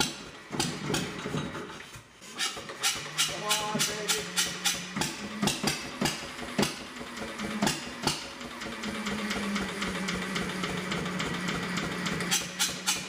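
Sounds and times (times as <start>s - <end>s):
diesel generator cranking: 0.0s - 13.0s.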